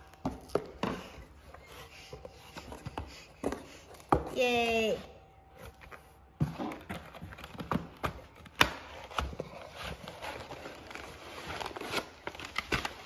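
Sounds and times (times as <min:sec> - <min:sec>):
cardboard box and packaging handled: 0:00.0 - 0:04.3, 0:05.3 - 0:13.0.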